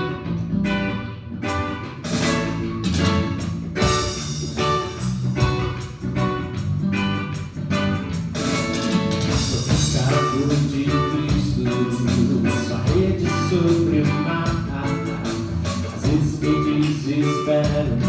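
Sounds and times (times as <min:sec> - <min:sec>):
bass line: 0:00.0 - 0:18.0
guitar strumming chords: 0:00.0 - 0:18.0.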